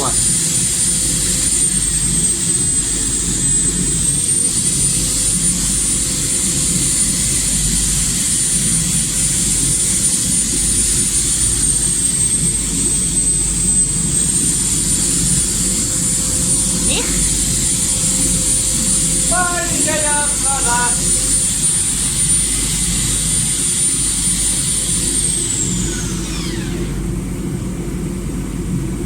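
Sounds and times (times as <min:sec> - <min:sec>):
machine running with whine: 0:00.0 - 0:29.0.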